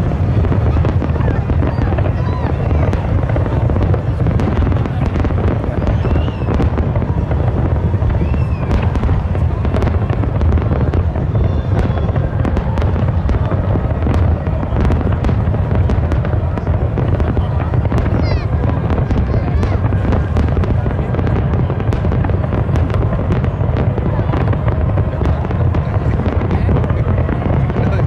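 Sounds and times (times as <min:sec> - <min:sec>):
fireworks booming: 0:00.0 - 0:28.0
fireworks cracks and crackles: 0:00.0 - 0:28.0.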